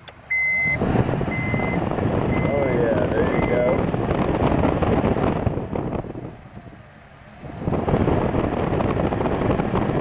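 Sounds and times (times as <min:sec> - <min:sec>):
blower fan rushing air: 0:00.1 - 0:10.0.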